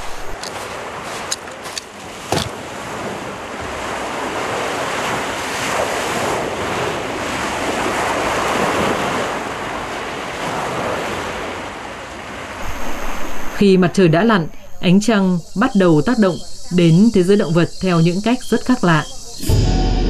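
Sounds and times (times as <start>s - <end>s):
ocean surf breaking: 0.0s - 19.3s.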